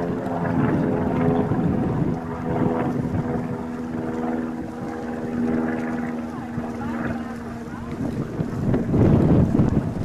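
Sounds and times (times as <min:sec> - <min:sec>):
steady motor hum: 0:00.0 - 0:10.0
wind rumbling on microphone: 0:00.0 - 0:10.0.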